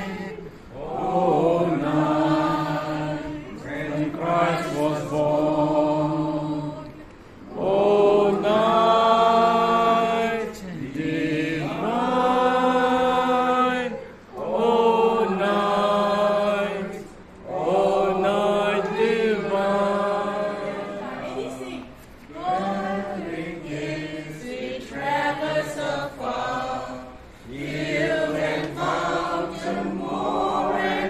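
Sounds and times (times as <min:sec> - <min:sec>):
mixed choir singing a carol: 0:00.0 - 0:31.0.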